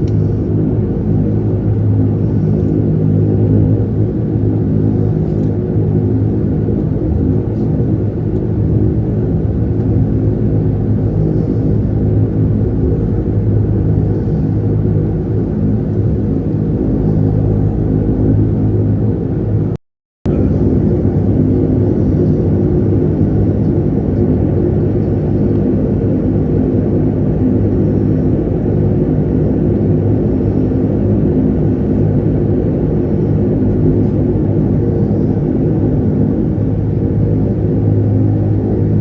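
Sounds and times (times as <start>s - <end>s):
turboprop engines droning: 0.0s - 39.0s.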